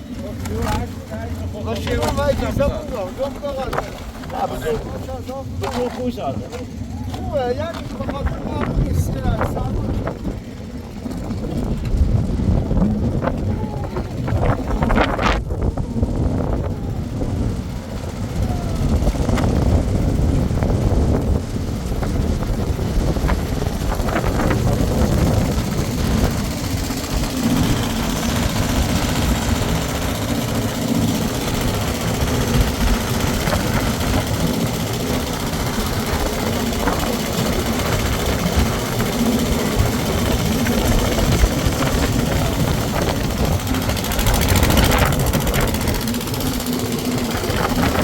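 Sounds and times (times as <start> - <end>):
engine droning: 0.0 - 48.0.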